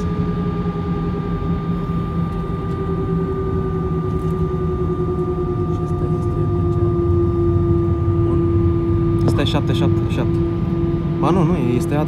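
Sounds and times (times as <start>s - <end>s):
engine whine: 0.0s - 12.0s
jet engine rumble: 0.0s - 12.0s.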